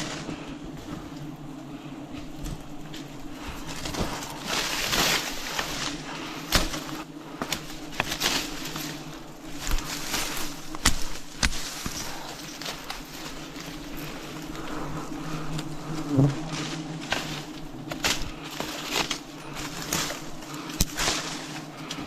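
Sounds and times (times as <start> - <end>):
bees humming: 0.0 - 22.0
rustling: 0.0 - 22.0.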